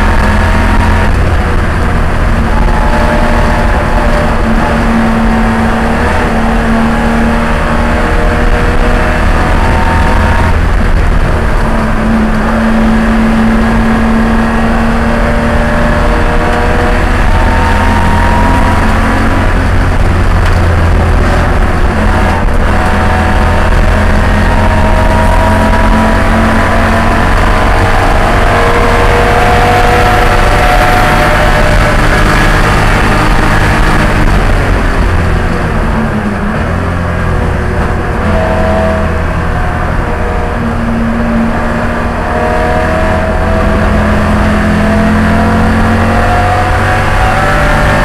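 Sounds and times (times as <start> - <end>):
race car engine revving: 0.0 - 48.0
road and wind noise: 0.0 - 48.0.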